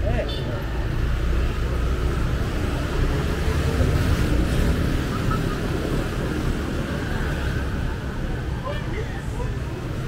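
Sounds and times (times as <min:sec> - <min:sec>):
motorbikes and cars passing: 0:00.0 - 0:10.0.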